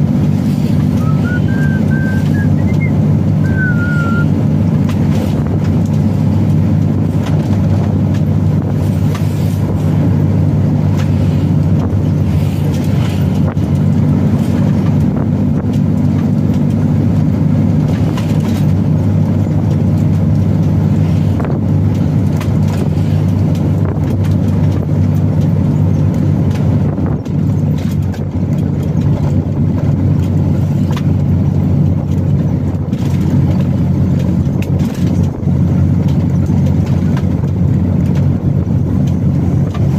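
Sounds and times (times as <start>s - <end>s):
road and tyre noise: 0.0s - 39.9s
truck engine droning: 0.0s - 39.9s.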